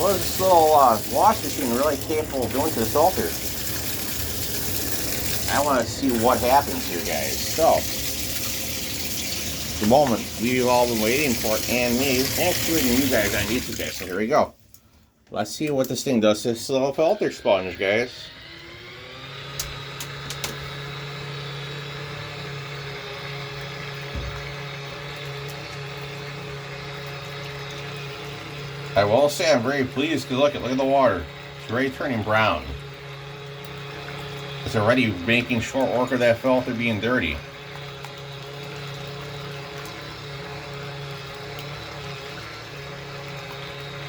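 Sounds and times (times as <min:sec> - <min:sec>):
washing machine motor humming: 0:00.0 - 0:14.5, 0:15.3 - 0:44.0.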